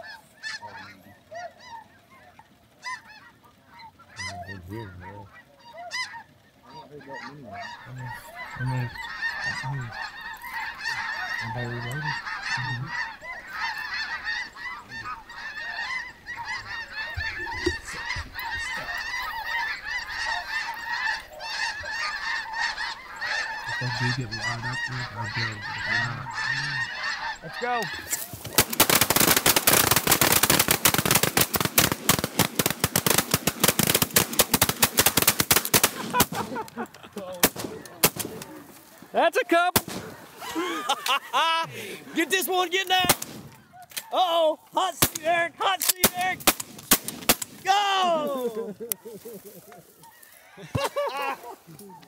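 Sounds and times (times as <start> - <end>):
geese honking: 0.0 - 52.0.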